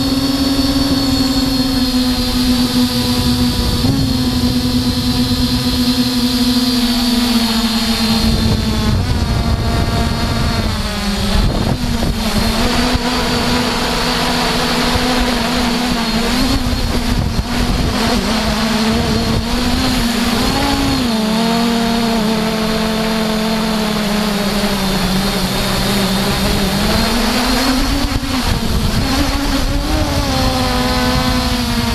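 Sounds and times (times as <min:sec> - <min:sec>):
drone propellers whining: 0:00.0 - 0:31.9
wind noise on microphone: 0:00.0 - 0:31.9.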